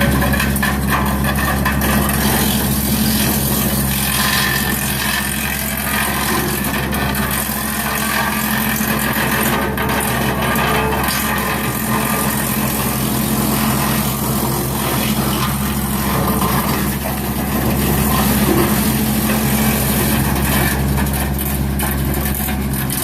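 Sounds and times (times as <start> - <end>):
tractor driven wood chipper droning: 0.0 - 23.0.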